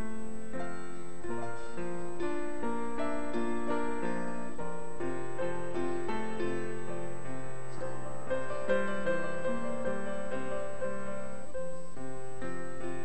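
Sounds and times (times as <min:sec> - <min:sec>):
keyboard playing slow chords: 0:00.0 - 0:13.0.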